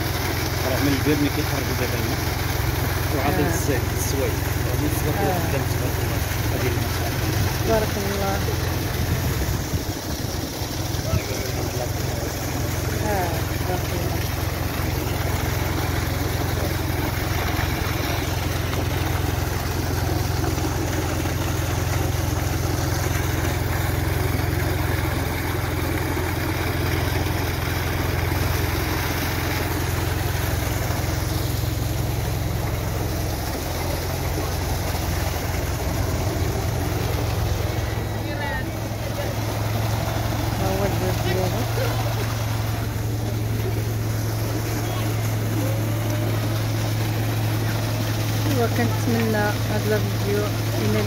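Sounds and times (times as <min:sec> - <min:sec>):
water pump motor running: 0:00.0 - 0:51.0
water splashing into stone basin: 0:00.0 - 0:51.0.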